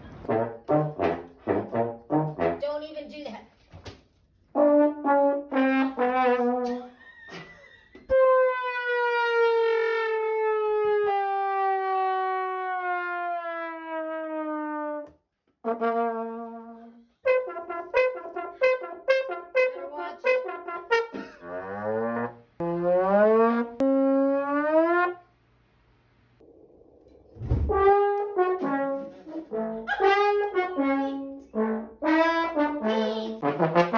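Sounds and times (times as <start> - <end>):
brass instrument playing: 0.0 - 2.6, 4.5 - 7.0, 8.1 - 25.3, 27.6 - 33.9.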